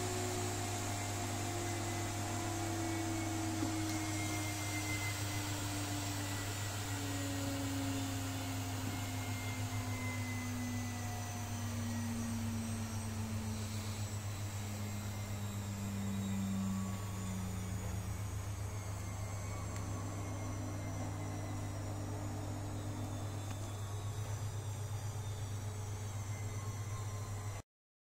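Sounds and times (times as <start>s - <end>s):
electrical hum: 0.0s - 27.6s
spindle motor whine winding down: 0.0s - 27.6s.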